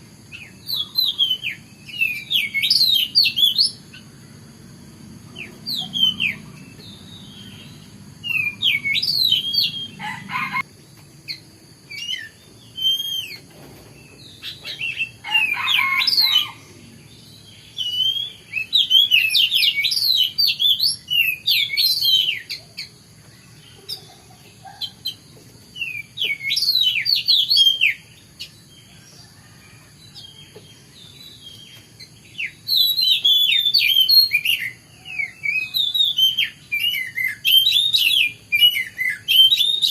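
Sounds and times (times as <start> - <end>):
bird singing whistled notes: 0.0 - 4.0, 5.3 - 10.6, 11.3 - 29.3, 30.1 - 39.9.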